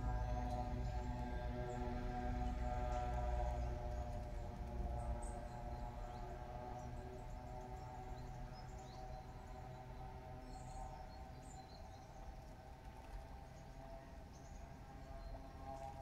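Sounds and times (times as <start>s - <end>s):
droning tones: 0.0s - 16.0s.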